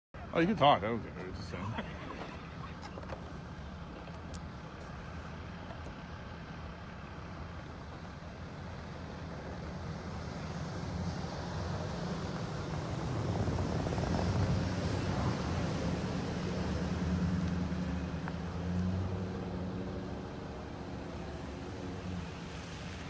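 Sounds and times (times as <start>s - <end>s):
road noise: 0.2s - 23.0s
van engine rumbling: 0.2s - 23.0s.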